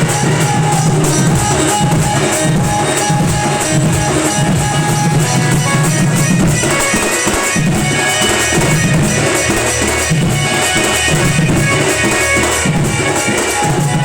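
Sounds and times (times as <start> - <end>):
band playing instrumental tune: 0.0 - 14.0
drums beating: 0.0 - 14.0.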